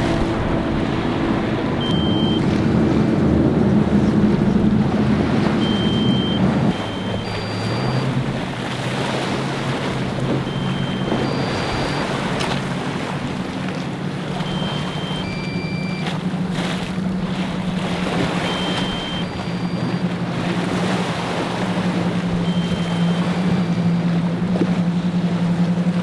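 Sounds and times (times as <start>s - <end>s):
hull splashing on waves: 0.0s - 26.0s
motorboat engines droning: 0.0s - 26.0s
water rushing: 0.0s - 26.0s
wind: 0.0s - 26.0s.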